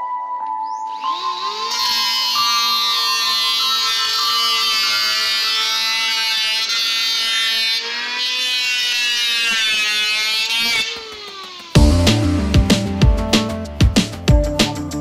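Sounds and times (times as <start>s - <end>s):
electric hand planer whining: 0.8s - 13.6s.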